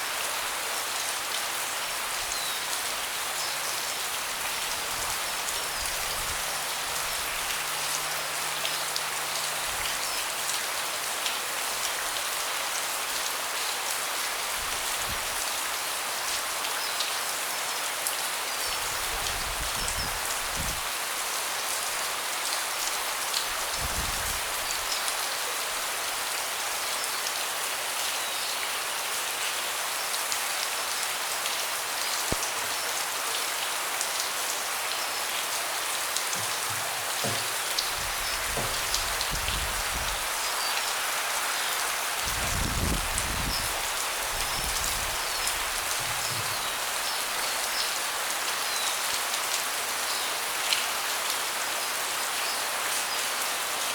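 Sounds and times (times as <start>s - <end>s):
rain hissing on a deck: 0.0s - 53.9s.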